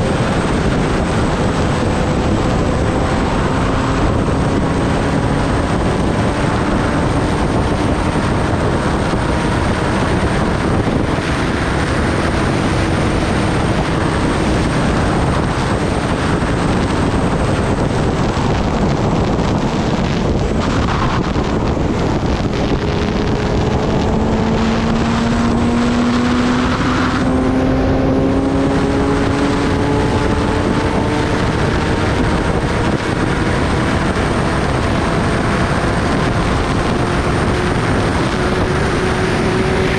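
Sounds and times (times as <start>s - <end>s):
heavy wind rush: 0.0s - 39.9s
motorcycle engine running: 0.0s - 39.9s.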